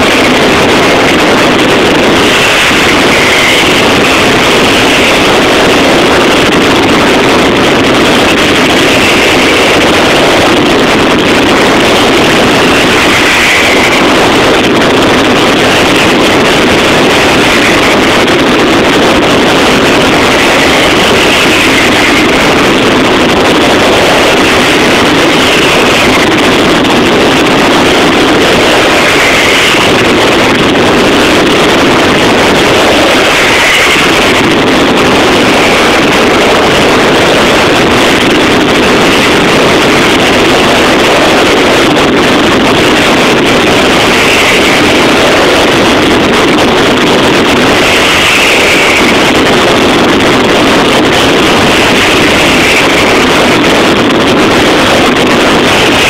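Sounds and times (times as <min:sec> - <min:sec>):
dense firecracker barrage: 0:00.0 - 0:56.0.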